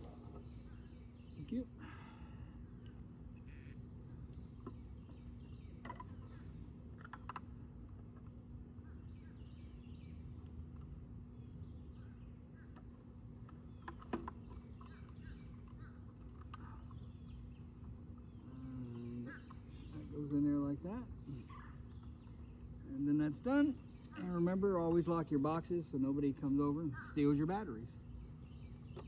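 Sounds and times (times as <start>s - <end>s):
low rumble and hum: 0.0s - 29.0s.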